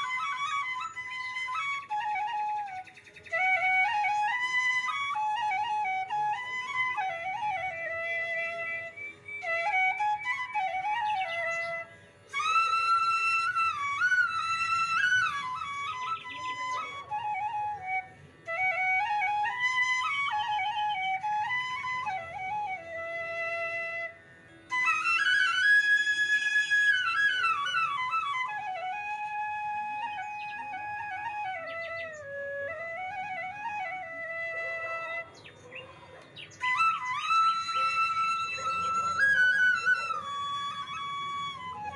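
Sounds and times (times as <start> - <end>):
bamboo flute melody: 0.0 - 41.9.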